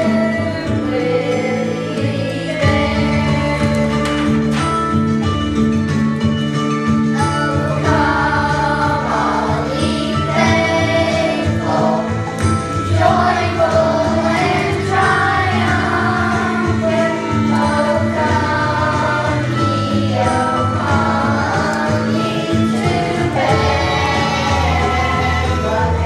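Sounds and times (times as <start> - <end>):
children's choir singing: 0.0 - 4.8, 7.2 - 26.0
instrumental accompaniment: 0.0 - 26.0.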